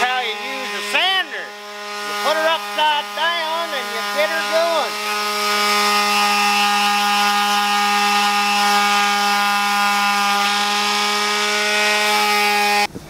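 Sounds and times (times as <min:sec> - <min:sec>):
palm sander motor whining: 0:00.0 - 0:13.0.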